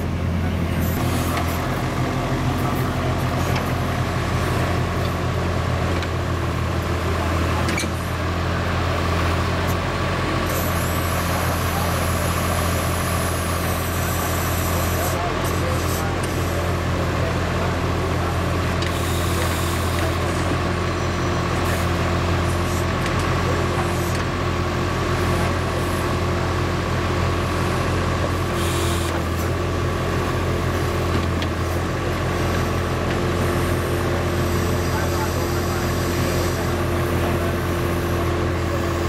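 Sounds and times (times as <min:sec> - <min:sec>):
diesel engine under load: 0:00.0 - 0:39.0.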